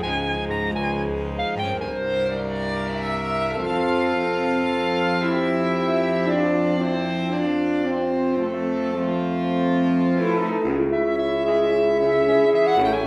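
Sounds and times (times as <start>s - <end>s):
saxophone ensemble playing chords: 0.0s - 13.0s.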